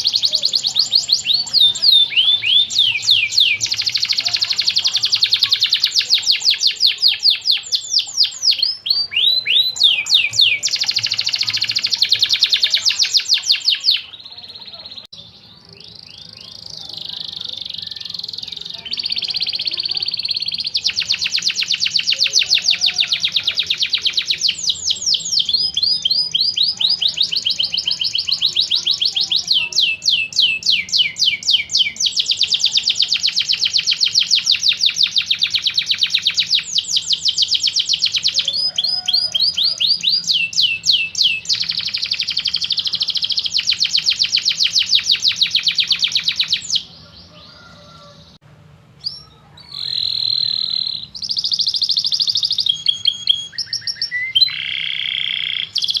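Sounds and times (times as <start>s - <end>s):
canary singing fast trills: 0.0s - 48.4s, 49.0s - 56.0s.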